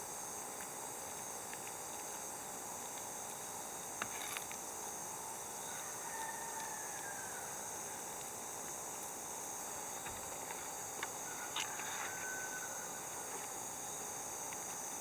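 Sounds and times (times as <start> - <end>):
high-pitched insect chorus: 2.9 - 15.0.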